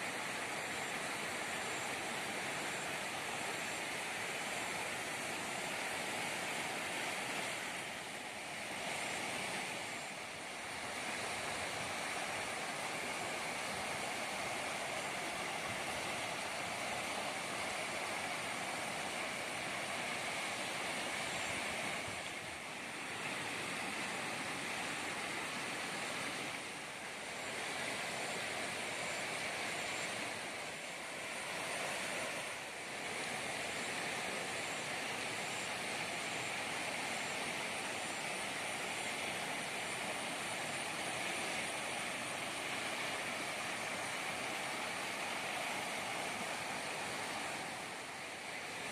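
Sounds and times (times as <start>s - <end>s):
river rushing in flood: 0.0s - 48.9s.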